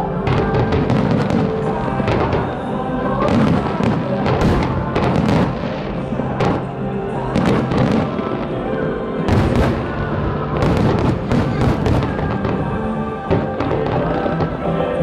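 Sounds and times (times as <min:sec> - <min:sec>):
fireworks banging: 0:00.0 - 0:15.0
loud music: 0:00.0 - 0:15.0.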